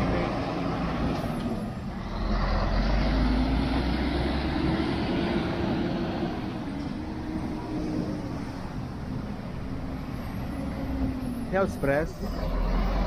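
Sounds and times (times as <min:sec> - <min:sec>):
diesel coach engine pulling away: 0:00.0 - 0:13.0.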